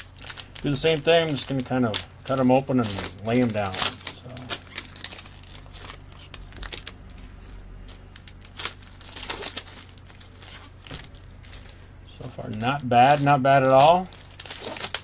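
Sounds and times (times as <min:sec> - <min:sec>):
card pack wrappers crinkling: 0:00.0 - 0:15.0.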